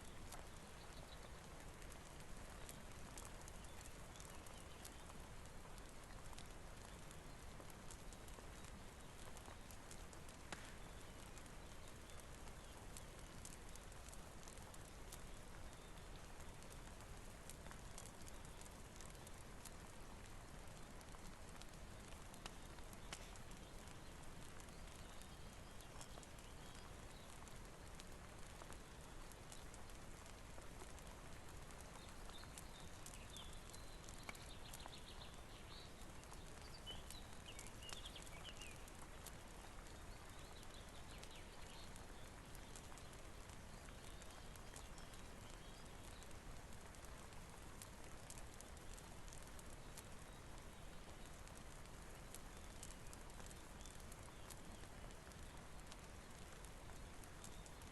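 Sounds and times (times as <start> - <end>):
faint steady rain: 0.0 - 57.9
wood fire crackling: 0.0 - 57.9.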